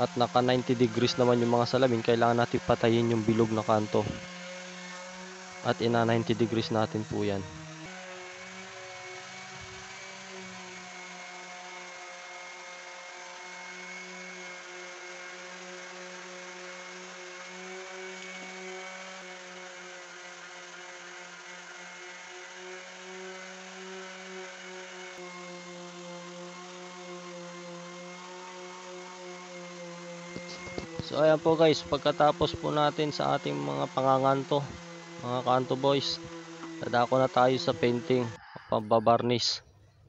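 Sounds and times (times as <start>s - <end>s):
motor humming with whine: 0.0s - 39.4s.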